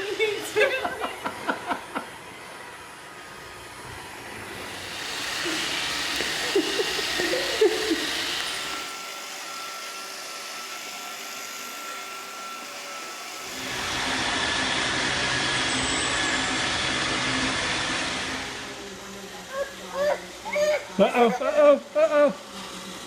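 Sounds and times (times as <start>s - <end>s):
robot vacuum whirring hum: 0.0s - 20.4s.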